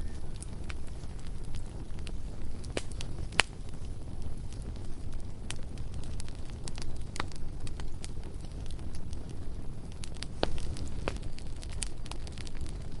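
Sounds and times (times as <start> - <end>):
bonfire crackling: 0.0 - 13.0
low rumble: 0.0 - 13.0.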